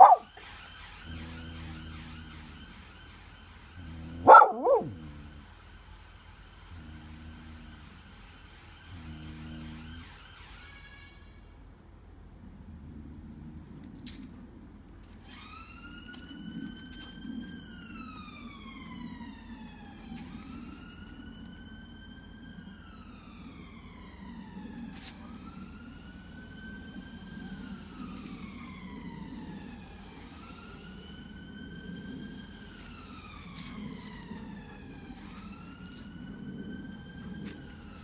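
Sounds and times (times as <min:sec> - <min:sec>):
emergency siren wailing: 0:00.0 - 0:11.8, 0:15.0 - 0:38.0.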